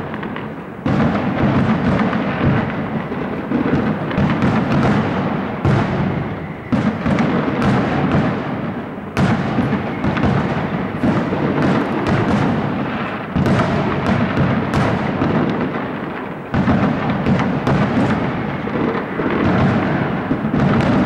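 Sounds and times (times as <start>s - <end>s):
firework shells bursting: 0.0s - 21.0s.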